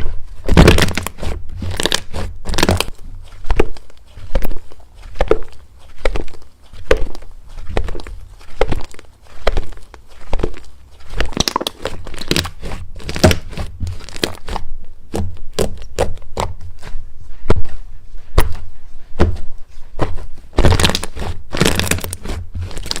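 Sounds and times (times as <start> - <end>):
slime crackling and popping: 0.4 - 16.6, 20.6 - 23.0.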